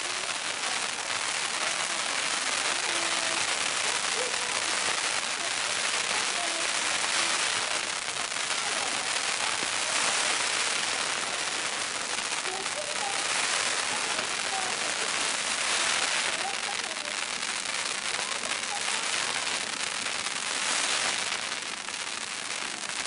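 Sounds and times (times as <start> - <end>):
firecrackers crackling: 0.0 - 23.0.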